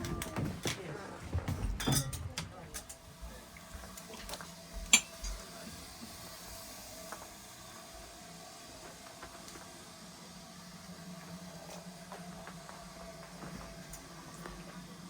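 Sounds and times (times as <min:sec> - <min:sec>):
railway carriage hum: 0:00.0 - 0:15.0.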